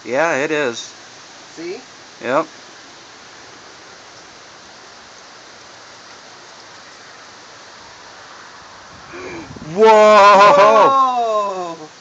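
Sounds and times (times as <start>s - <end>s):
heavy rain hissing: 0.0s - 12.0s.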